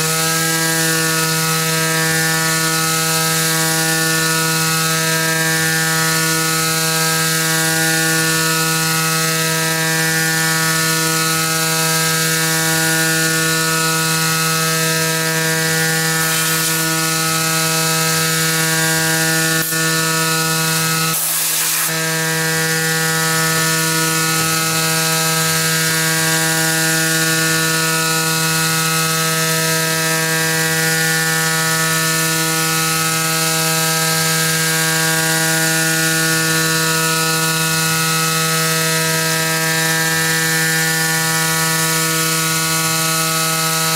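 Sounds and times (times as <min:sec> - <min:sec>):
mill cutter whining: 0:00.0 - 0:43.9.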